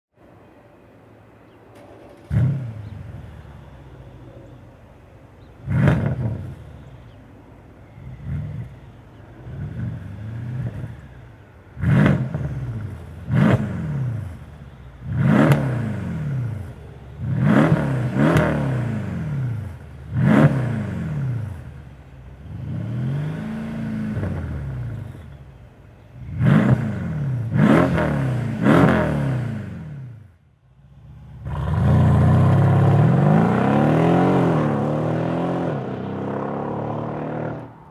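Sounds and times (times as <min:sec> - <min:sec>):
car engine revving: 0:02.0 - 0:03.9, 0:05.4 - 0:07.2, 0:07.8 - 0:25.5, 0:26.1 - 0:37.9.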